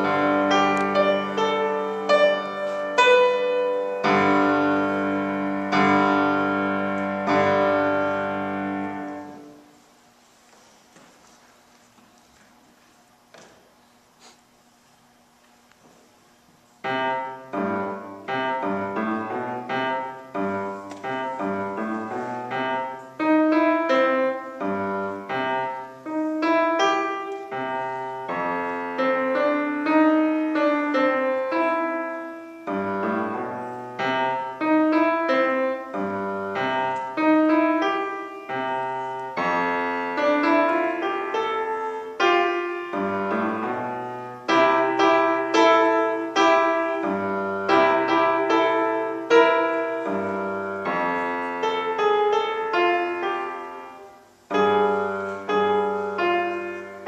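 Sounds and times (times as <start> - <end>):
grand piano playing: 0.0 - 10.2, 16.7 - 57.0.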